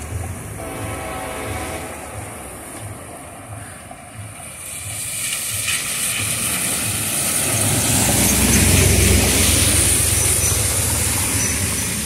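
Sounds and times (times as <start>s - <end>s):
low engine rumble: 0.0s - 12.0s
tyres hissing on wet road: 0.0s - 12.0s.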